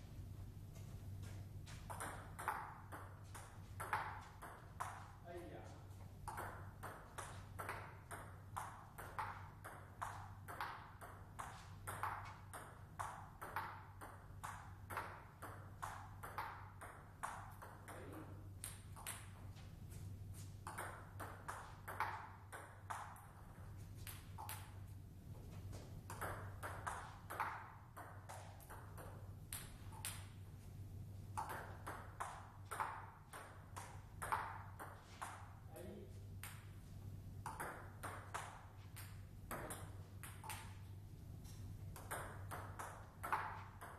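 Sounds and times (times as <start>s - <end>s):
steady low hum: 0.0s - 43.9s
ball bouncing on table: 1.7s - 5.2s, 6.2s - 19.5s, 20.6s - 23.3s, 24.0s - 24.8s, 25.7s - 30.3s, 31.3s - 35.6s, 36.4s - 36.8s, 37.4s - 43.9s
table tennis ball hitting bats: 1.7s - 19.6s, 20.3s - 24.9s, 25.7s - 30.6s, 31.3s - 35.7s, 36.4s - 43.9s.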